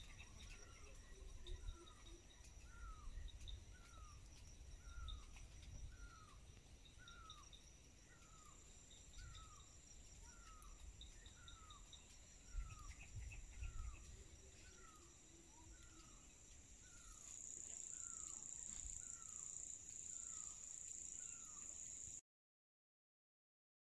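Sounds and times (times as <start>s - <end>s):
high-pitched insect drone: 0.2s - 22.2s.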